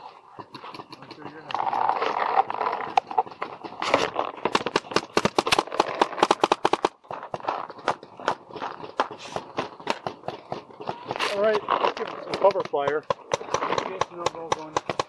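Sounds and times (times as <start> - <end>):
paintball markers firing: 0.4 - 15.0.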